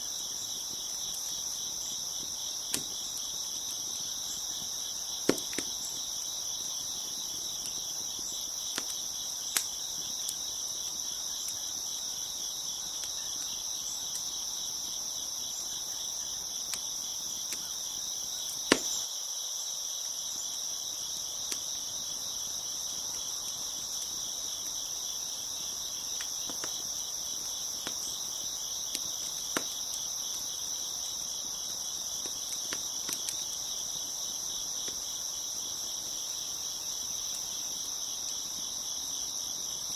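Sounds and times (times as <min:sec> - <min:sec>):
wood fire popping and crackling: 0:00.0 - 0:19.1, 0:21.0 - 0:39.9
crickets chirping: 0:00.0 - 0:39.9.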